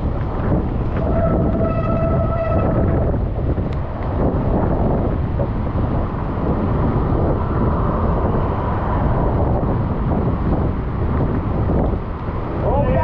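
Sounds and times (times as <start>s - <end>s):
street and road noise: 0.0s - 13.0s
wind buffeting microphone: 0.0s - 13.0s.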